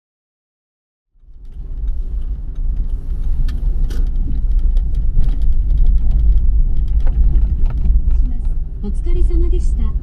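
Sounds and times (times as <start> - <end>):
vehicle engine and road rumble: 1.1 - 10.0.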